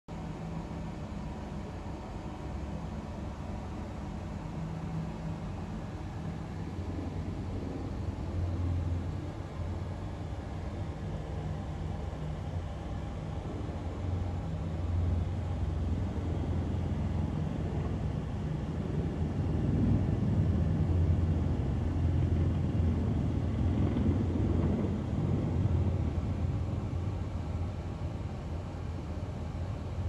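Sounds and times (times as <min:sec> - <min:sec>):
helicopter rotor rumble: 0:00.3 - 0:30.0.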